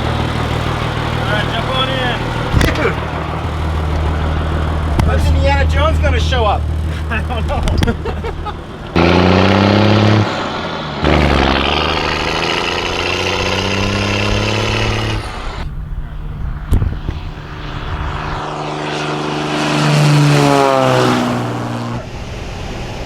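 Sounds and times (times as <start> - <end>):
propeller plane engine revving: 0.0 - 23.0.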